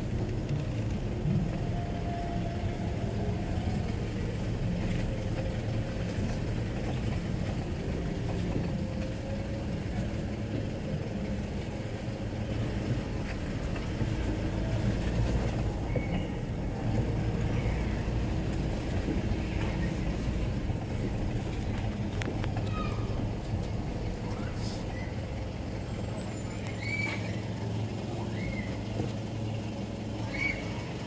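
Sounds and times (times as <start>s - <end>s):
engine and tyre drone: 0.0s - 31.0s.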